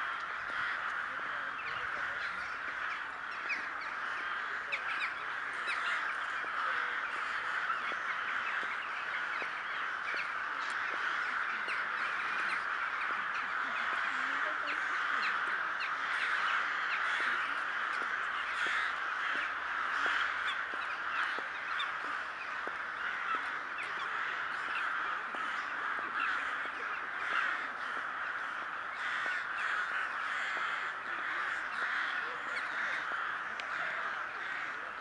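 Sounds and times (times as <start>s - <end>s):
flock of crows cawing: 0.0s - 35.0s.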